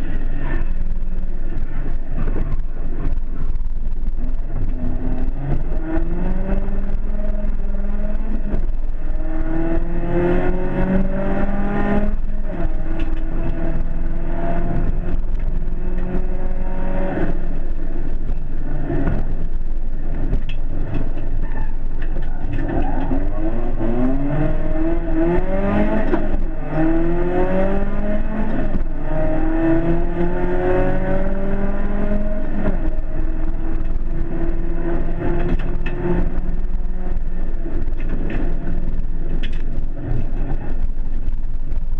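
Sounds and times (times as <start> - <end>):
rally car engine revving: 0.0 - 41.9
tyre and road noise: 0.0 - 41.9.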